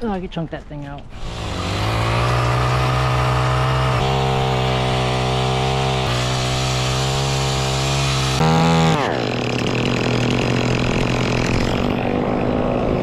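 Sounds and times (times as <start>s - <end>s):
chainsaw revving: 1.1s - 12.1s.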